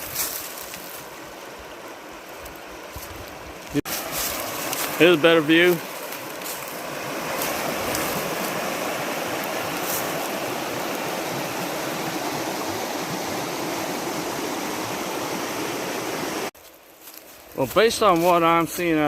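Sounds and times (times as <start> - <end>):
water rushing: 0.0 - 16.6.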